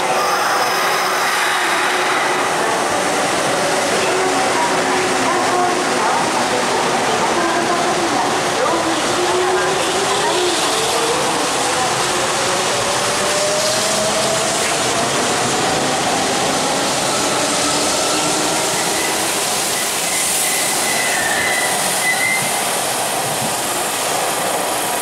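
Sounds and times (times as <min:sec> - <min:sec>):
train wheels rushing on rail: 0:00.0 - 0:25.0.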